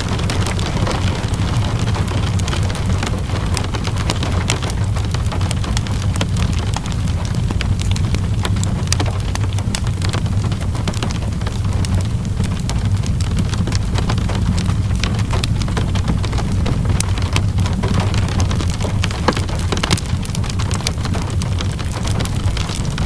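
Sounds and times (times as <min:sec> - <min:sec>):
fireplace crackling: 0:00.0 - 0:23.0
low rumble: 0:00.0 - 0:23.0
rain pattering: 0:00.0 - 0:23.0.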